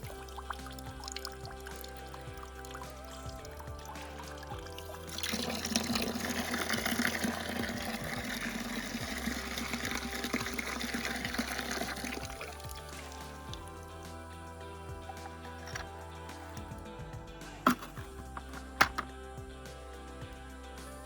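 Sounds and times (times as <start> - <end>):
water running out of pipe: 0.0 - 16.9
background music: 0.0 - 21.0.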